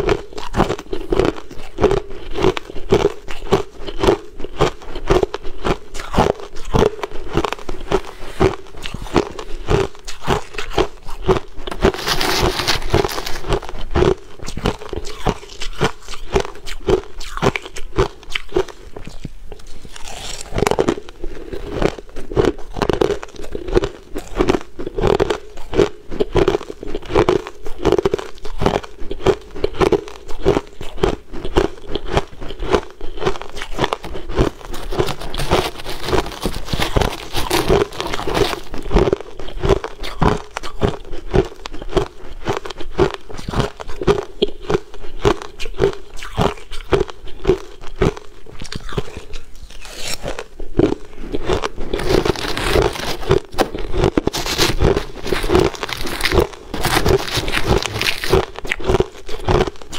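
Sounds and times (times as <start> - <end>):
crushed ice being chewed: 0.0 - 59.9.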